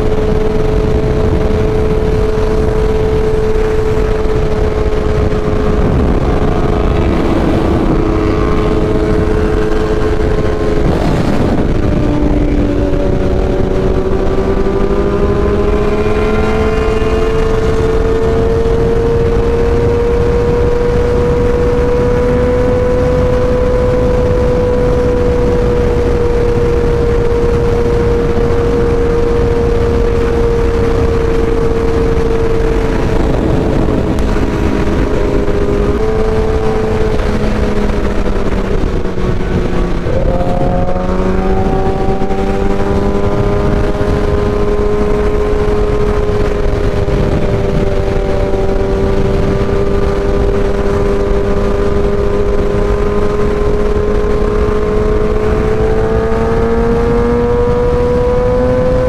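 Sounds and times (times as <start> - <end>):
heavy wind rush: 0.0 - 59.0
motorcycle engine cruising: 0.0 - 59.0.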